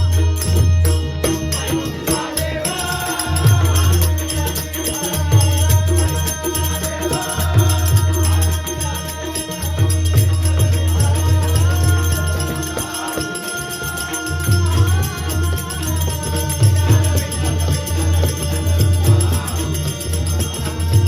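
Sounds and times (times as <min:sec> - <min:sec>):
steady drum beat: 0:00.0 - 0:19.6
jingling hand cymbals: 0:00.0 - 0:21.0
voices singing together: 0:00.0 - 0:21.0.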